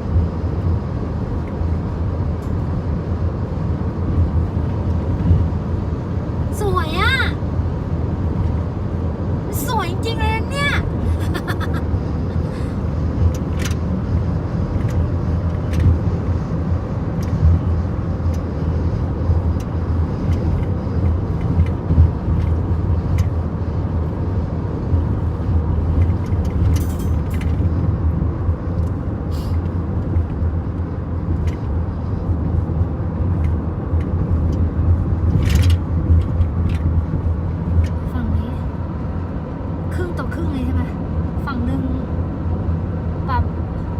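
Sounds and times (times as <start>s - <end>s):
car driving rumble: 0.0s - 43.9s.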